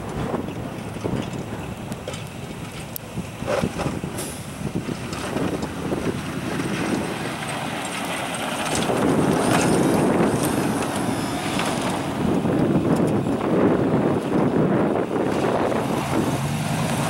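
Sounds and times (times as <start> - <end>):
snowplow blade pushing snow: 0.0 - 17.0
truck engine: 0.0 - 17.0.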